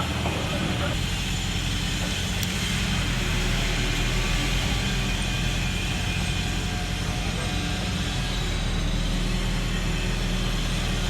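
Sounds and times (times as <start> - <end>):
heavy diesel engine drone: 0.0 - 11.0.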